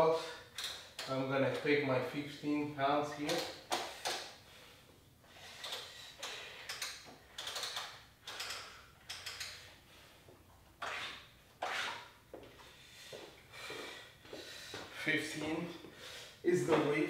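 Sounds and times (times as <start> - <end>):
dumbbells scraping and rustling: 3.0 - 17.0.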